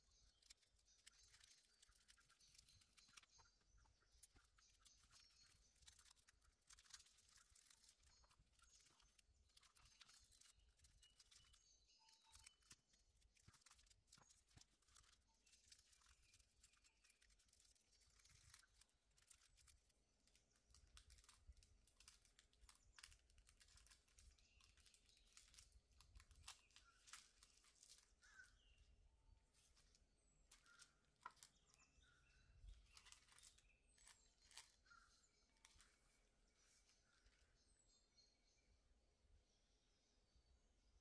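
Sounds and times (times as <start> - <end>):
foil crinkling and crackling: 0.0 - 28.8, 29.4 - 37.2.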